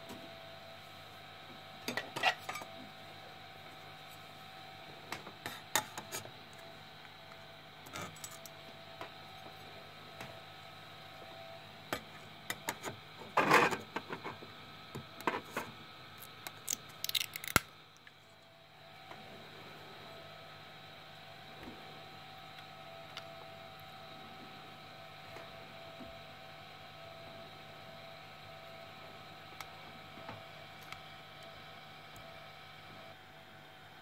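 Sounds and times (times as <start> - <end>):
printer fans humming: 0.0 - 34.0.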